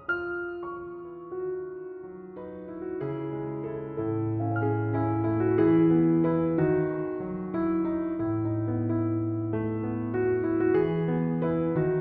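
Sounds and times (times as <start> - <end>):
soft keyboard melody: 0.0 - 12.0.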